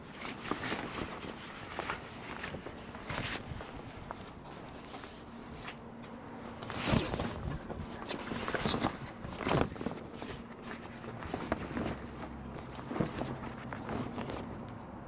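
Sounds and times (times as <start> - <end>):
fabric cover rustling: 0.0 - 14.6.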